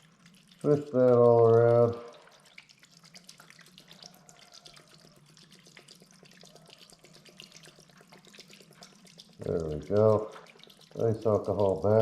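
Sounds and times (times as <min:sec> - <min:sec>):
liquid sloshing in a pan: 0:00.0 - 0:12.0.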